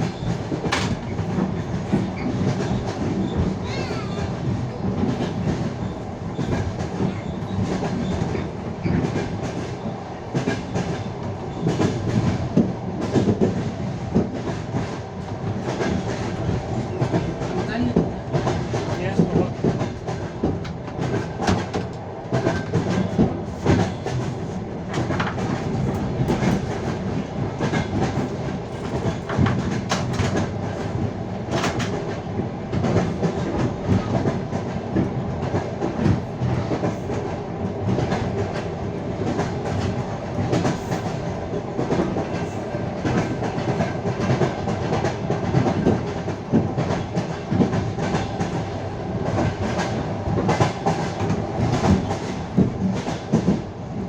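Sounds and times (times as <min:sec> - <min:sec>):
train wheels clattering over rail joints: 0:00.0 - 0:32.2, 0:32.8 - 0:53.7.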